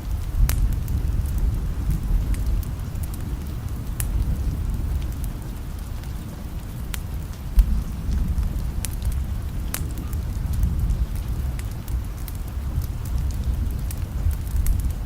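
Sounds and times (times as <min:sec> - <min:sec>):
rain hissing: 0:00.0 - 0:15.0
wood fire crackling: 0:00.0 - 0:15.0.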